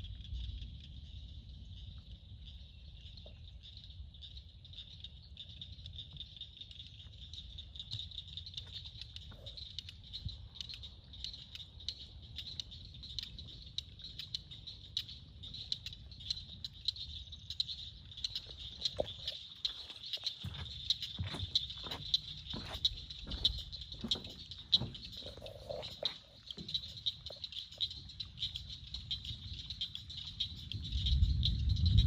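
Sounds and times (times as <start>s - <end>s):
sharp ticks: 3.3s - 32.0s.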